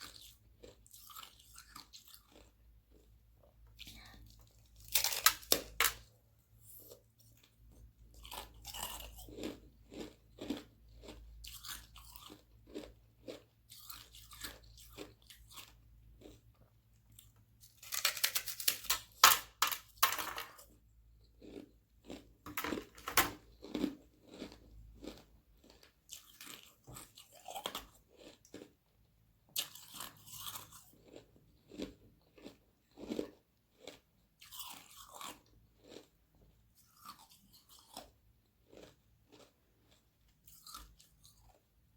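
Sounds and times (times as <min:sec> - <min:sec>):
ice being bitten and chewed: 0:00.0 - 0:19.2, 0:20.6 - 0:41.9.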